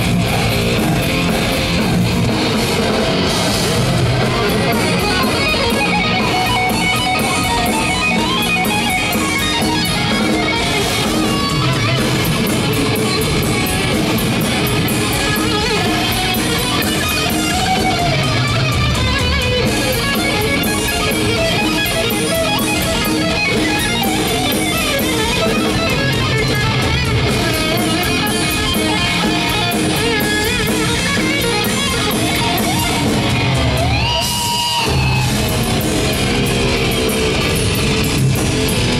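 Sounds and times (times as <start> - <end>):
bass: 0.0 - 38.9
distorted electric guitars: 0.0 - 38.9
drums: 0.0 - 38.9.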